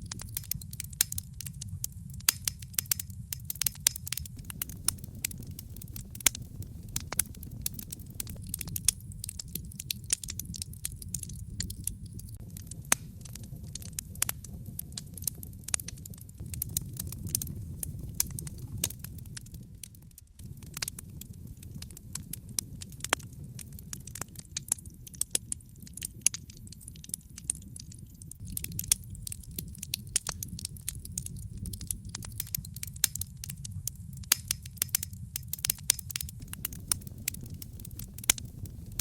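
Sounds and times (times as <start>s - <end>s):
fire pops and snaps: 0.0s - 39.0s
wood fire crackling: 0.0s - 39.0s.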